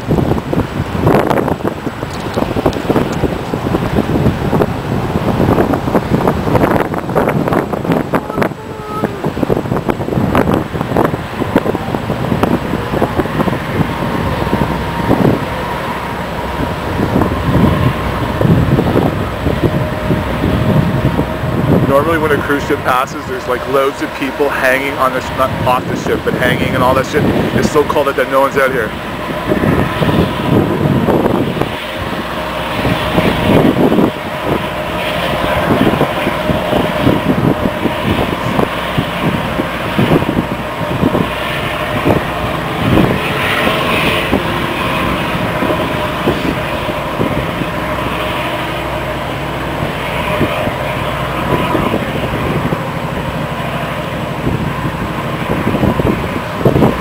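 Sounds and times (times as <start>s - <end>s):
faint ship hum: 0.0s - 57.0s
steady mechanical drone: 0.0s - 57.0s
wind buffeting microphone: 0.0s - 57.0s.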